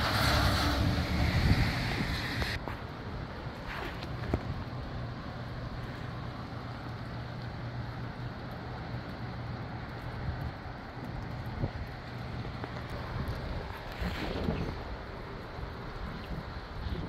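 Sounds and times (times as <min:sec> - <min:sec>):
gusty wind: 0:00.0 - 0:06.8, 0:09.6 - 0:17.0.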